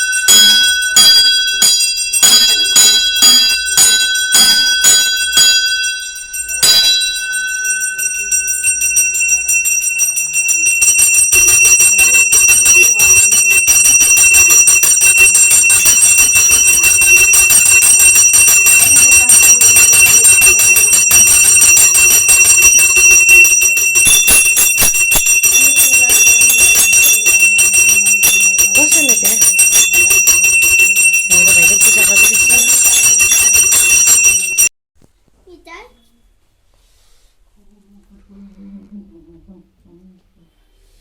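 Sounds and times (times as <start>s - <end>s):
bells rung rapidly: 0.0s - 34.7s.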